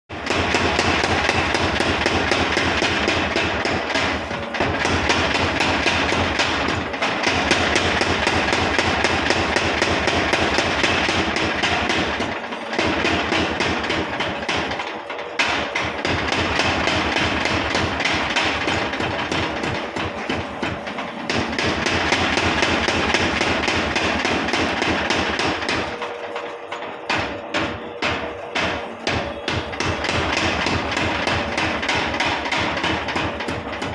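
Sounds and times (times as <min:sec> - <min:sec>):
power hammer striking rapidly: 0:00.1 - 0:33.9.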